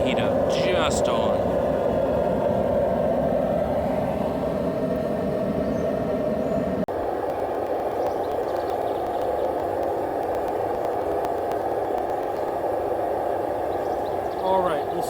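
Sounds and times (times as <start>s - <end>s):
gas forge burner roaring: 0.0s - 15.0s.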